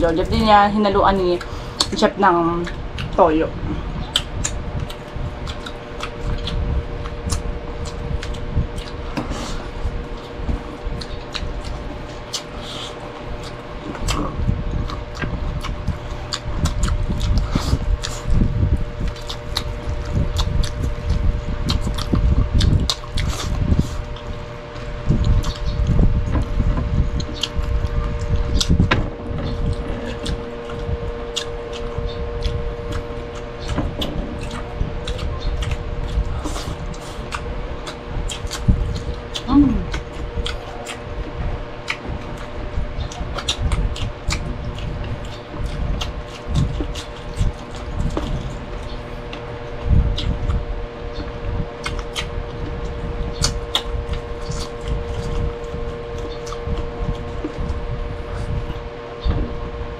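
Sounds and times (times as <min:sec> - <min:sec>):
steady hum: 0:00.0 - 0:59.9
chewing and mouth smacks: 0:01.4 - 0:02.0, 0:02.6 - 0:03.2, 0:04.0 - 0:59.6.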